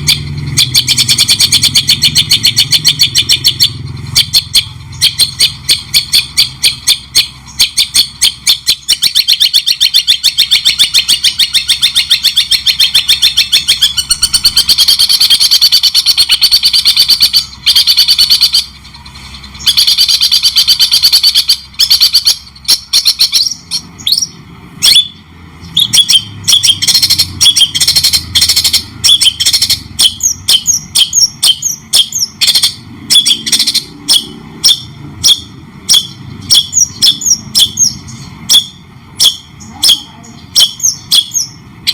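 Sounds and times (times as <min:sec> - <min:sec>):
songbird trilling: 0:00.0 - 0:41.9.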